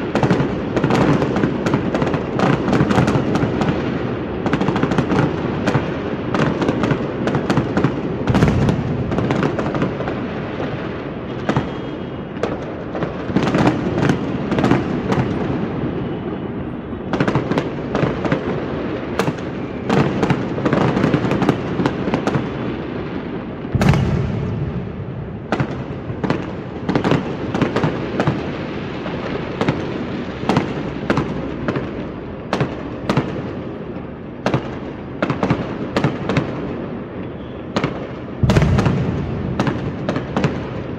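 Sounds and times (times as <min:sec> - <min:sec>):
fireworks bangs and crackling: 0:00.0 - 0:40.9
heavy fireworks booms: 0:00.0 - 0:40.9.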